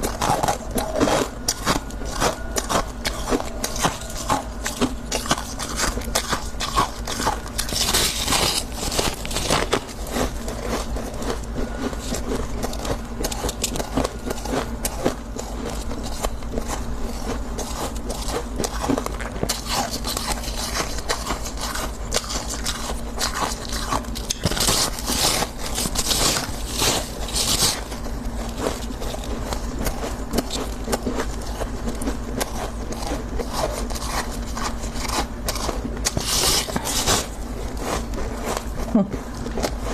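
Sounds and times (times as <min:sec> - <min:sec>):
frost crunching and crackling: 0:00.0 - 0:39.9.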